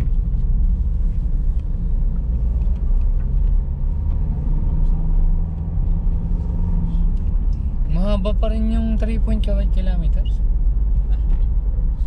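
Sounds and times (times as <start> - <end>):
low engine hum: 0.0 - 12.0
road and wind noise: 0.0 - 12.0.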